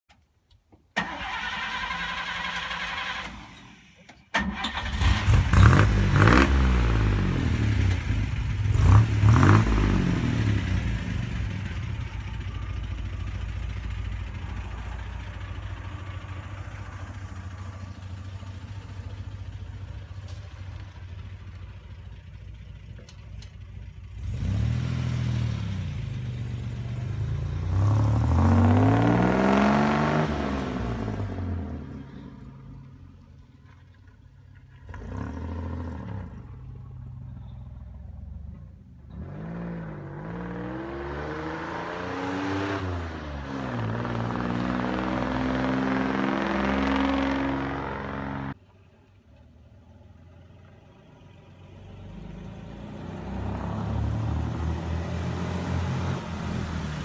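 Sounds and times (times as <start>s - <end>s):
car engine starting and revving: 1.0s - 21.5s, 24.0s - 33.0s, 34.6s - 37.5s, 38.2s - 48.6s, 51.7s - 57.0s
car pulling away: 1.0s - 57.0s.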